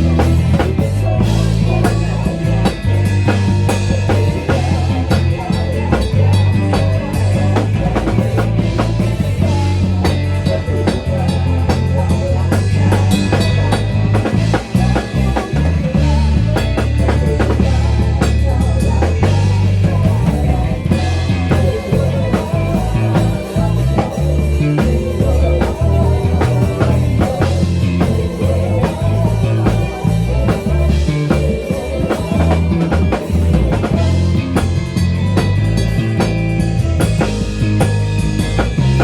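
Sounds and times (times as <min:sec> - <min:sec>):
rock band playing: 0:00.0 - 0:39.0.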